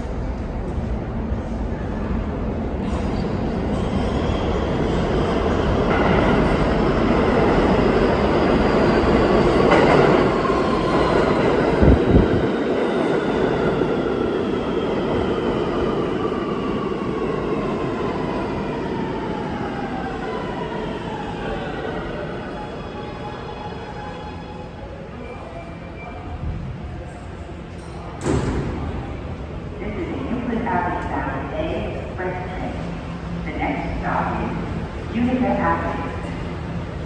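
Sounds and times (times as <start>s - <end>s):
train wheel and track rumble: 0.0s - 37.0s.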